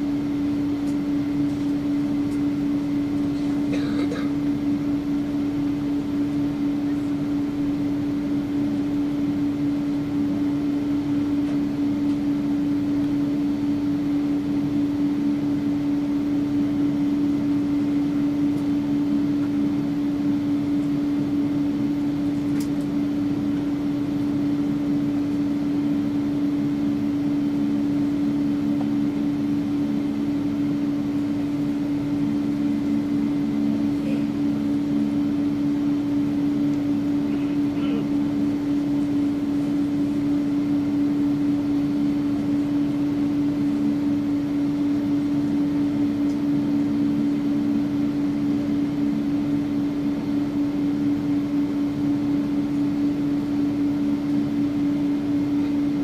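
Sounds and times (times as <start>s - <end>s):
airliner cabin hum: 0.0s - 56.0s.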